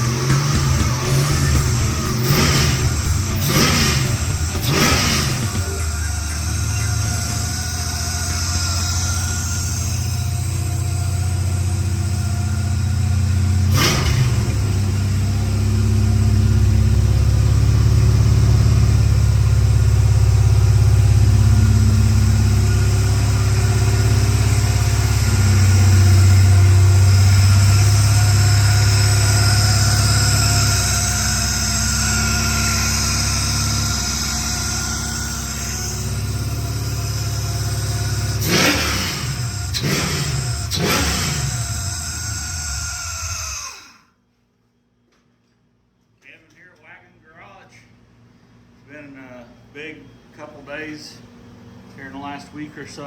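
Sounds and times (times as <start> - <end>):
car engine running: 0.0 - 43.8.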